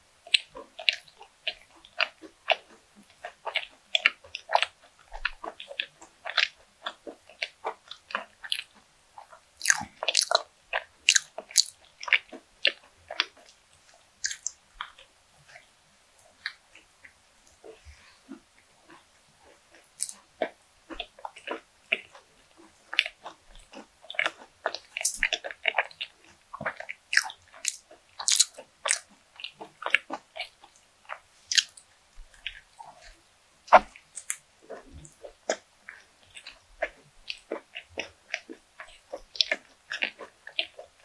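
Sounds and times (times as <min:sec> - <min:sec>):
person chewing crunchy bread: 0:00.2 - 0:41.0.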